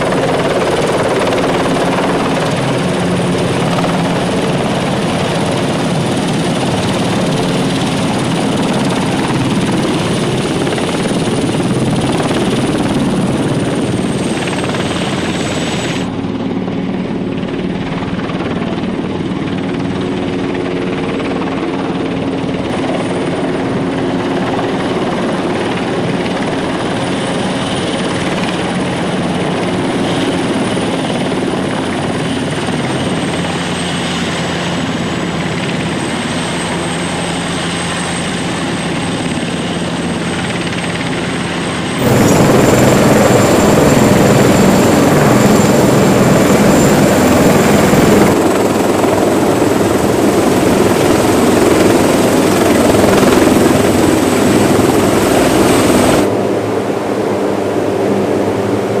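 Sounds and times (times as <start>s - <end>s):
heavy helicopter rotor and engine: 0.0s - 59.0s
helicopter turbine whine and rotor: 0.0s - 59.0s.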